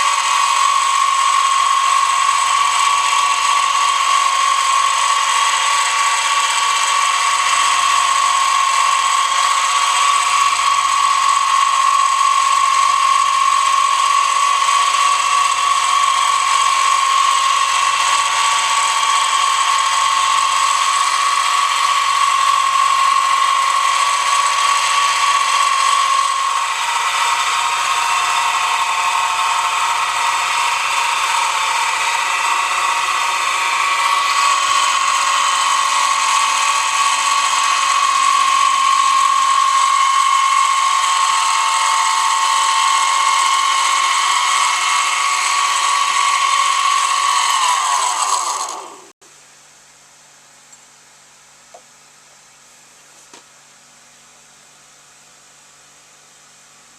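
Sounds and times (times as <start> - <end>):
milling machine high whine: 0.0 - 49.2.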